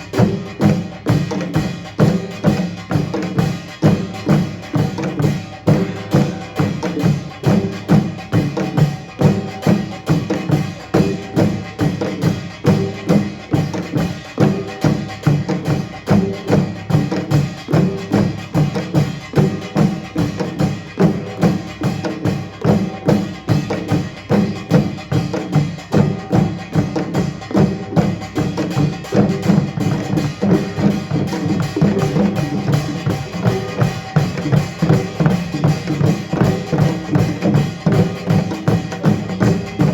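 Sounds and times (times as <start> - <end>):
percussion band drumming: 0.0 - 39.9.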